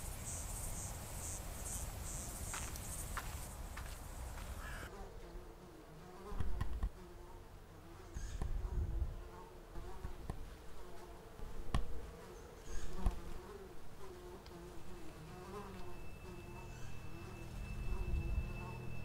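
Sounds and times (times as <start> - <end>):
fly buzzing: 0.0 - 19.0.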